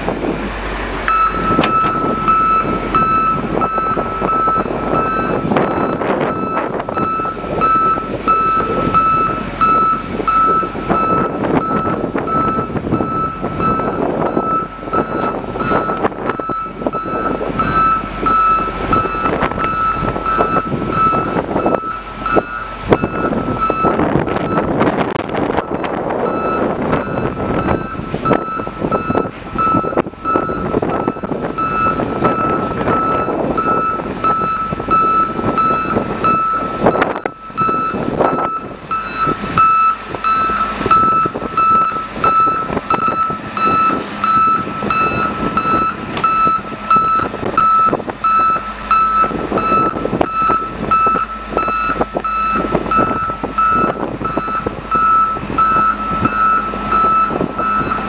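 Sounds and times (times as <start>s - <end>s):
backup alarm beeping: 1.1s - 24.9s, 25.5s - 58.0s.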